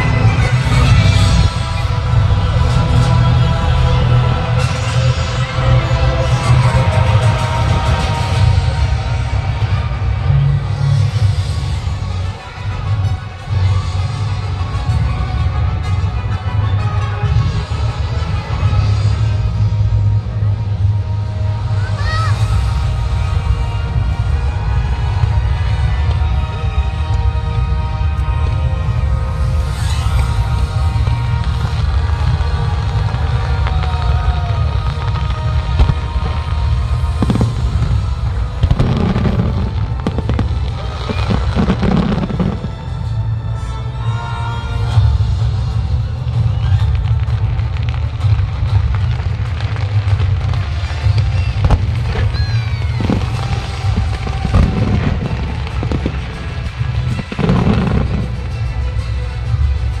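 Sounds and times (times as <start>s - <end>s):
loud music with heavy bass: 0.0s - 20.6s, 21.5s - 60.0s
fireworks bangs and crackles: 0.0s - 60.0s.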